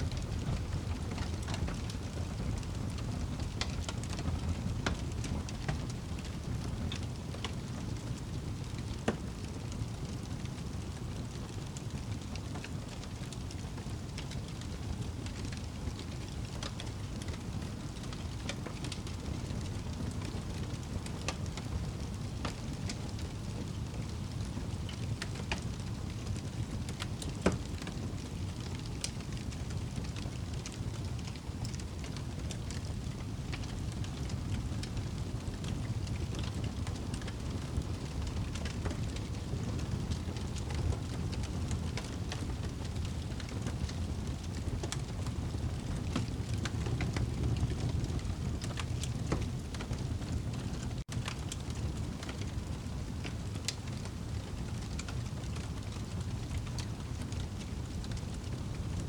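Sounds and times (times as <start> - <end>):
fire crackling: 0.0 - 59.0
fire rumbling: 0.0 - 59.0.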